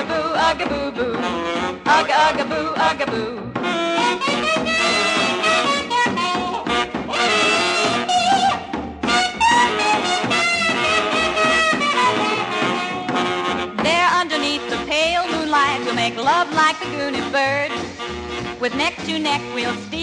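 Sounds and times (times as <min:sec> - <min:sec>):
swing band horns playing: 0:00.0 - 0:20.0.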